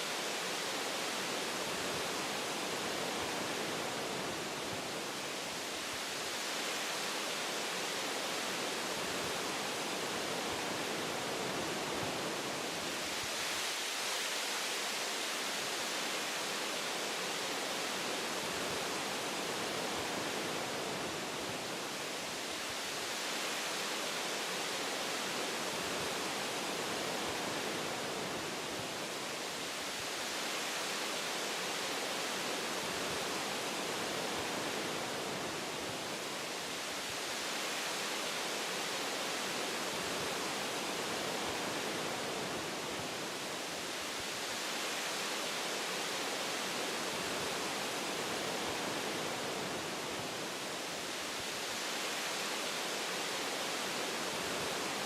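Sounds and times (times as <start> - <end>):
wind through tree branches: 0.0 - 55.0.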